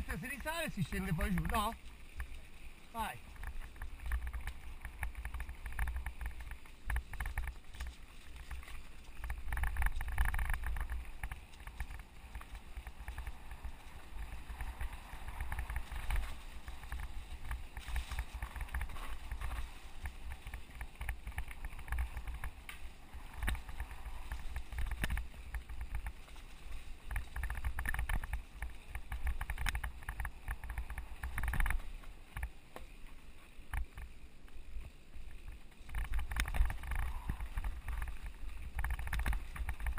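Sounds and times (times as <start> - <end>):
bike rattling over bumps: 0.0 - 39.9
wind rumbling on microphone: 0.0 - 39.9.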